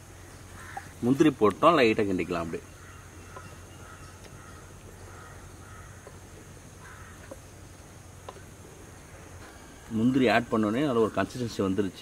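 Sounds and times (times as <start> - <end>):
faint crows cawing: 0.0 - 11.9.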